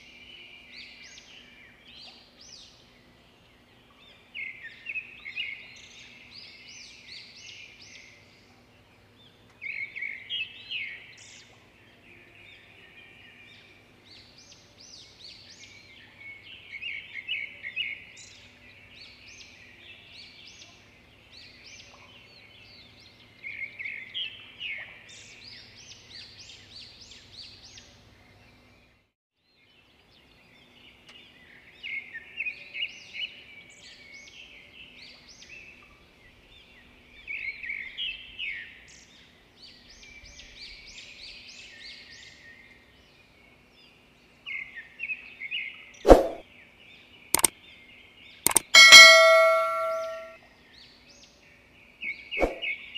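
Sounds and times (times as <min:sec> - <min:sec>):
songbirds chirping: 0:00.0 - 0:28.9, 0:29.5 - 0:52.9.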